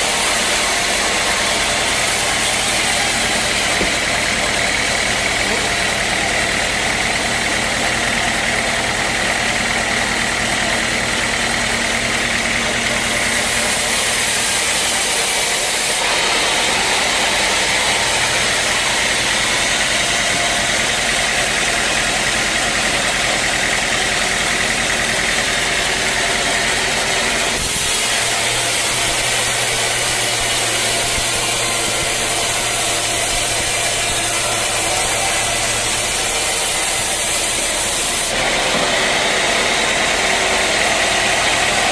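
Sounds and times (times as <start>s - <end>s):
bandsaw sawmill running: 0.0s - 41.9s.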